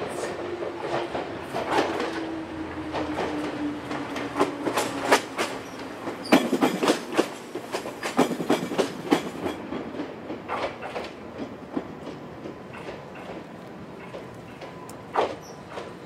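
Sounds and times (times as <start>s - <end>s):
electric train hum: 0.0s - 16.0s
train wheels clacking over rail joints: 0.2s - 16.0s.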